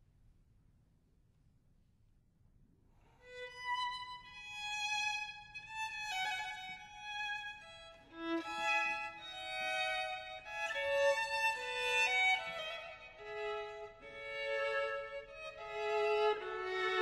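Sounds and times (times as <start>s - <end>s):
slow violin melody: 3.2s - 17.0s.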